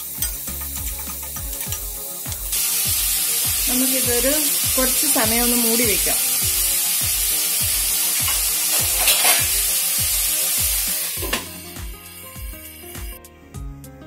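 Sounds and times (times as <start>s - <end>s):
onions sizzling in oil: 0.0s - 13.2s
music with steady beat: 0.0s - 14.0s.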